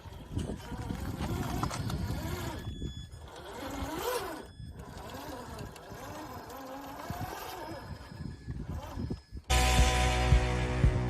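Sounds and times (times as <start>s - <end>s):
toy truck electric motor whining: 0.0s - 9.5s.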